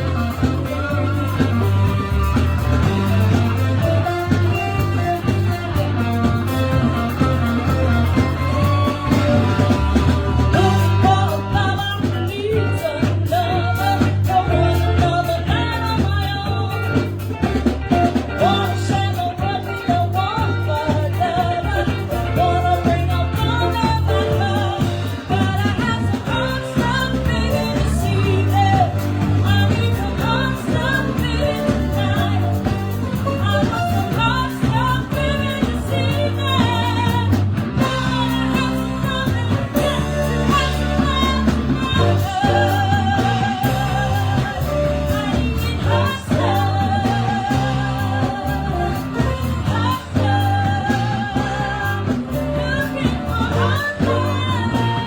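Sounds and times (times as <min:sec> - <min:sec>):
bass line: 0:00.0 - 0:55.0
person singing: 0:00.0 - 0:55.0
rock guitar: 0:00.0 - 0:55.0.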